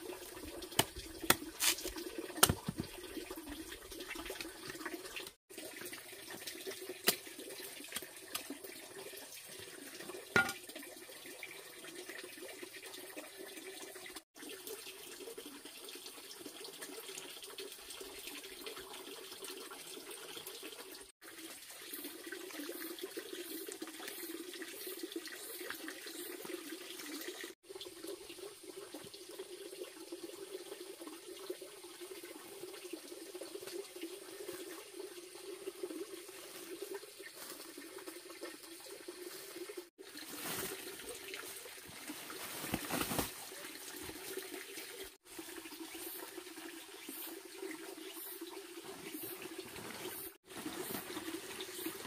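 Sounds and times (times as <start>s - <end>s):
running water: 0.0s - 52.0s.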